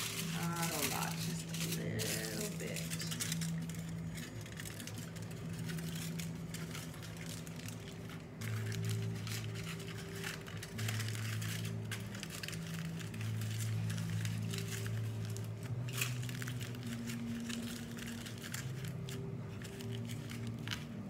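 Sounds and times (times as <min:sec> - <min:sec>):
aluminum foil crinkling: 0:00.0 - 0:21.0
background music with low notes: 0:00.0 - 0:21.0.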